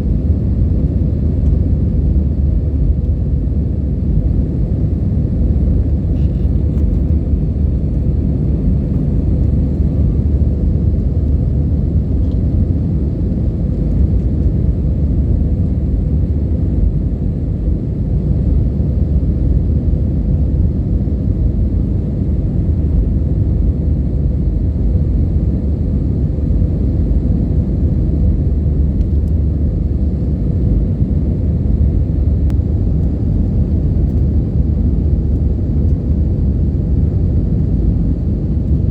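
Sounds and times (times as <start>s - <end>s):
airliner engine rumble in cabin: 0.0s - 38.9s
faint constant hum: 0.0s - 38.9s.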